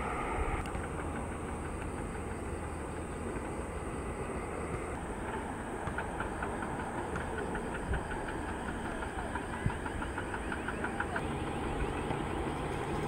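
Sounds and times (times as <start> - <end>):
distant jet aircraft rumble: 0.0 - 13.0.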